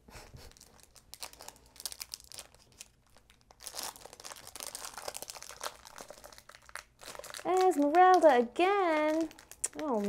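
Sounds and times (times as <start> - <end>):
wrapper crinkling and tearing: 0.5 - 10.0.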